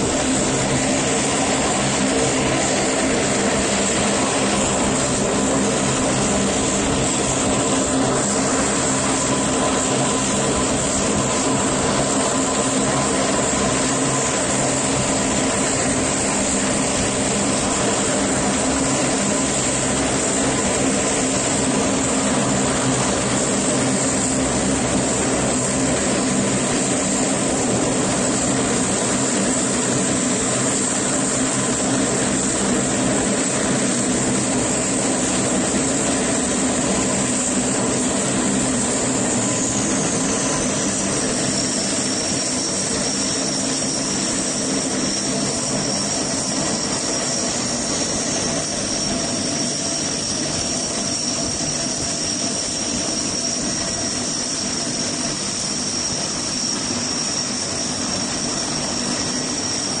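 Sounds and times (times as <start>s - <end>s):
high turbine whine: 0.0s - 60.0s
propeller drone: 0.0s - 60.0s.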